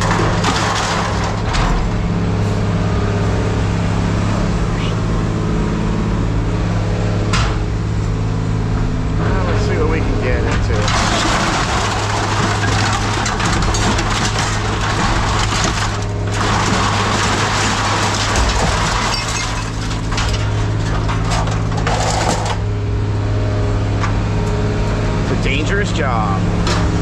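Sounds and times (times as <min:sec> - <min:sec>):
scrap metal crunching and clattering: 0:00.0 - 0:04.4, 0:07.1 - 0:27.0
low machine drone: 0:00.0 - 0:27.0.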